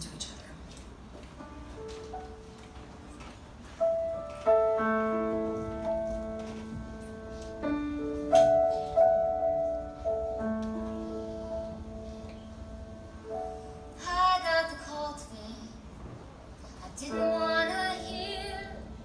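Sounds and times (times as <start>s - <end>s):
grand piano chords: 0.9s - 19.0s.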